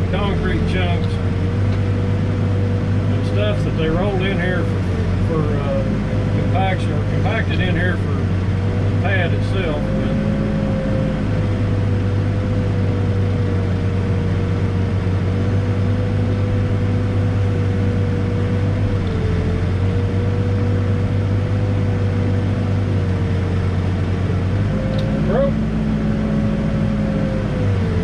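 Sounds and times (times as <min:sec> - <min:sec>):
diesel engine running: 0:00.0 - 0:28.0
steady whine: 0:00.0 - 0:28.0.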